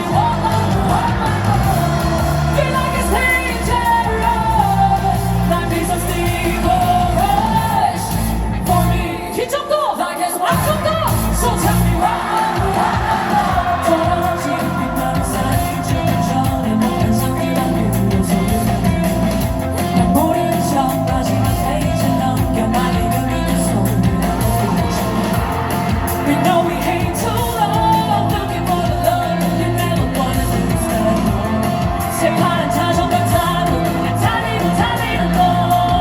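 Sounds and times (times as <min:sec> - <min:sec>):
heavy bass beat: 0:00.0 - 0:09.1, 0:10.5 - 0:36.0
person singing: 0:00.0 - 0:36.0
pop song over loudspeakers: 0:00.0 - 0:36.0.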